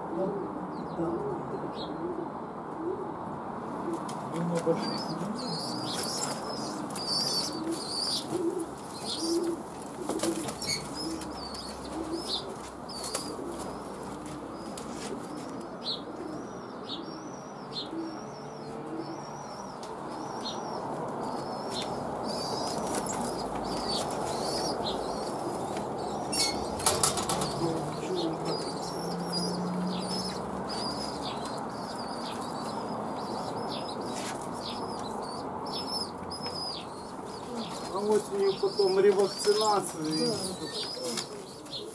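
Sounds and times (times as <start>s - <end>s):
pigeon cooing: 0.1s - 41.9s
young pigeons peeping: 0.1s - 41.9s.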